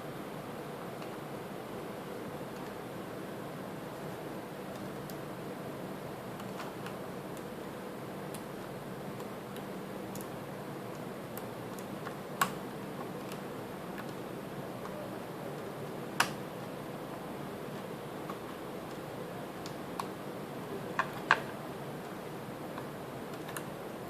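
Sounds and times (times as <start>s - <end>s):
low hum and hiss: 0.0s - 24.0s.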